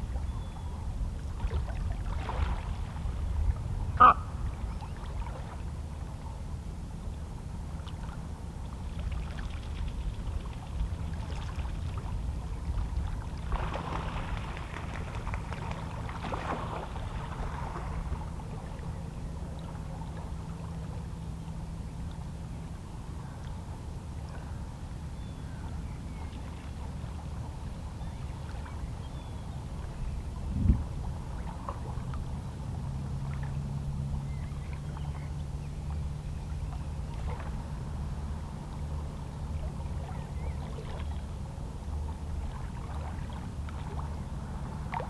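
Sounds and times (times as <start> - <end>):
steady low rumble: 0.0 - 16.2, 16.8 - 45.0.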